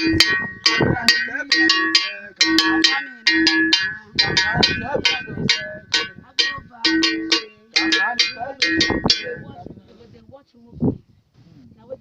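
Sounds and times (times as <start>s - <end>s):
metal bell ringing: 0.0s - 9.6s.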